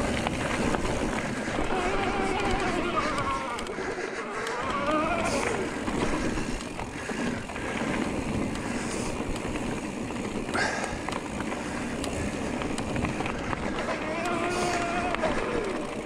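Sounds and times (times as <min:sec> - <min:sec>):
bike tyres rumbling on dirt: 0:00.0 - 0:16.0.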